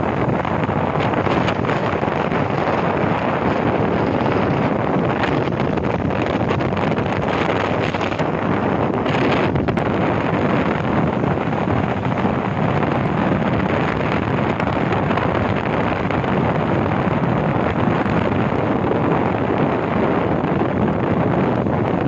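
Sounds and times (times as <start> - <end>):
vehicle running noise: 0.0 - 22.0
wind buffeting microphone: 0.0 - 22.0.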